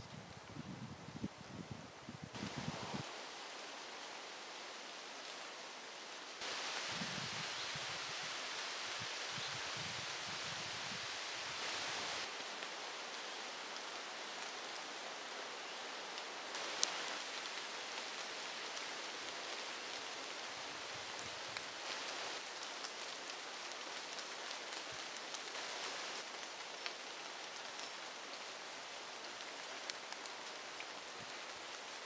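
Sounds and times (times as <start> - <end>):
rain falling on foliage: 1.4 - 32.0.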